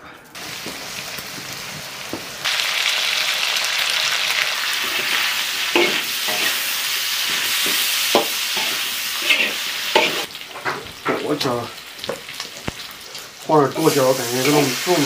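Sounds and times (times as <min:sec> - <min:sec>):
meat sizzling in a wok: 0:00.4 - 0:15.0.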